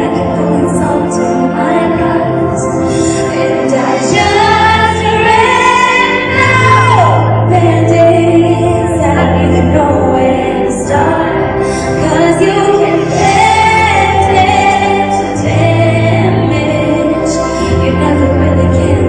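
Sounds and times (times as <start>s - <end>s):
woman singing: 0.0s - 19.0s.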